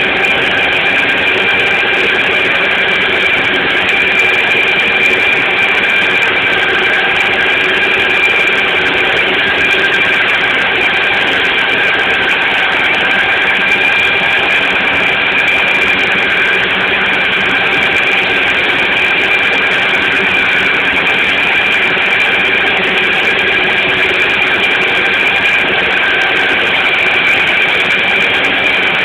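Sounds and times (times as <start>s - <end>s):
high whine: 0.0s - 29.0s
riding mower engine running: 0.0s - 29.0s.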